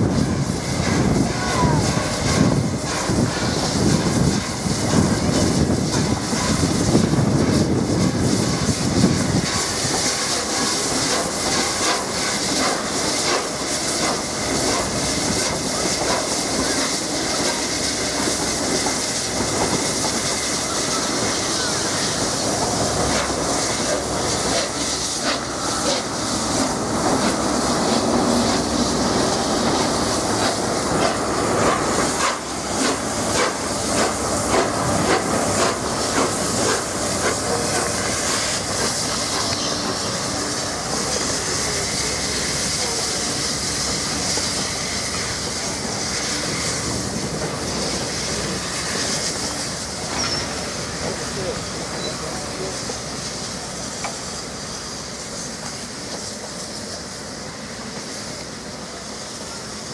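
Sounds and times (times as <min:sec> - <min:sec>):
steam hissing: 0:00.0 - 0:59.9
train wheels clicking on rails: 0:00.0 - 0:59.9.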